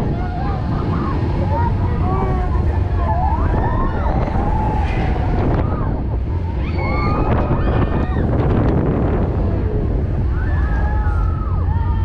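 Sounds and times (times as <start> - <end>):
roller coaster car rumbling on track: 0.0 - 12.0
wind buffeting microphone: 0.0 - 12.0.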